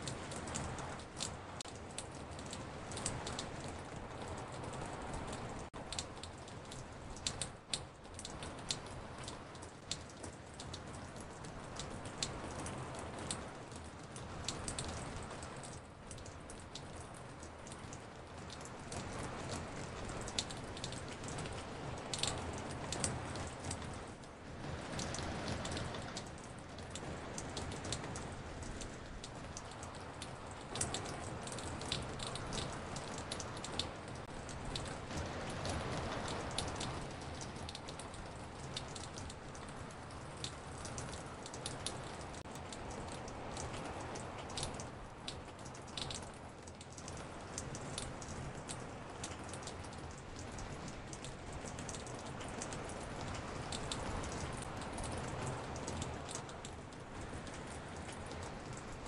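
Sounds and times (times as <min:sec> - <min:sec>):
raindrops tapping: 0:00.0 - 0:59.0
steady rain hiss: 0:00.0 - 0:59.0.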